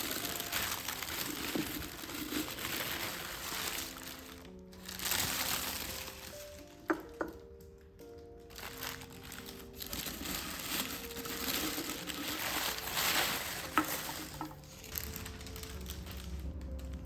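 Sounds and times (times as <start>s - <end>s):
paper or plastic rustling: 0.0s - 17.0s
quiet background music: 0.0s - 17.0s.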